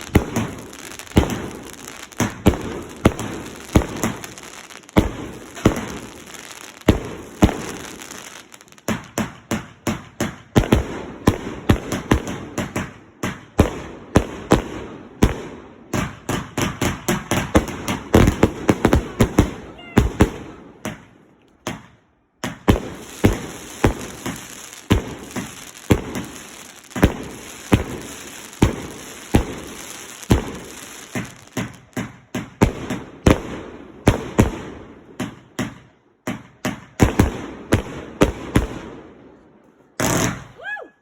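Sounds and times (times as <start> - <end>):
fireworks banging: 0.0 - 38.9, 40.0 - 40.5.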